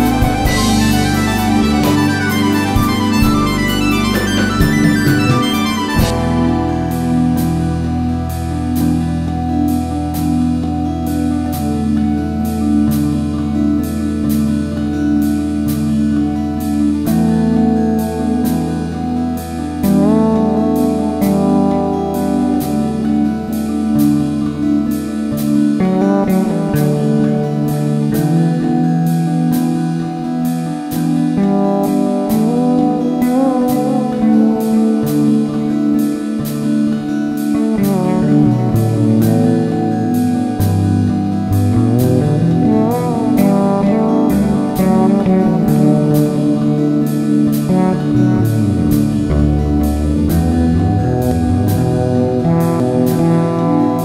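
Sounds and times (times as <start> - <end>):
instrumental music with drums and bass: 0.0 - 54.0.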